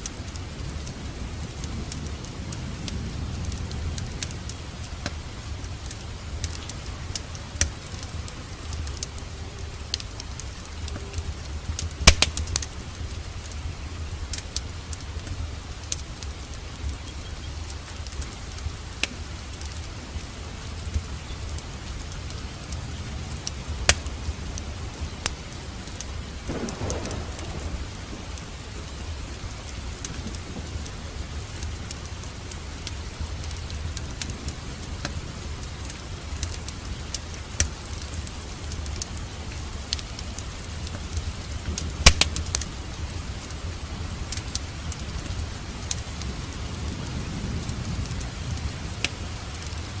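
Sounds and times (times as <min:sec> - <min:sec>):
sharp crackles: 0:00.0 - 0:50.0
steady rain: 0:00.0 - 0:50.0.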